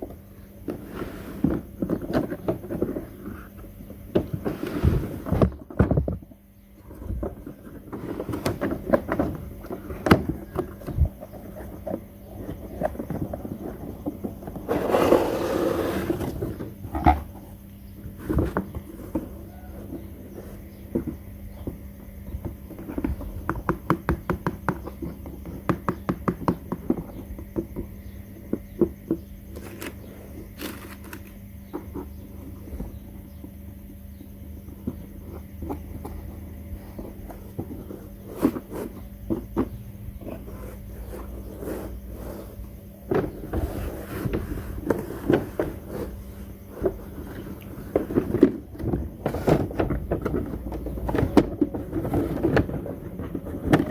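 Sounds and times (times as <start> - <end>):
faint hum: 0.0 - 53.9.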